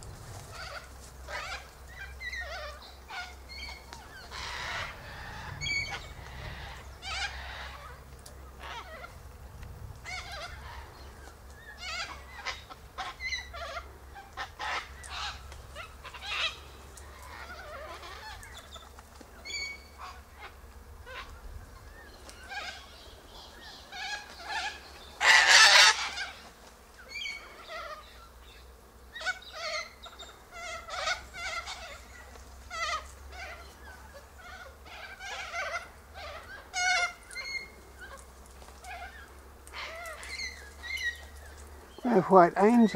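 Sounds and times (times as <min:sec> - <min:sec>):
cockatoos squawking and chattering: 0:00.0 - 0:42.9.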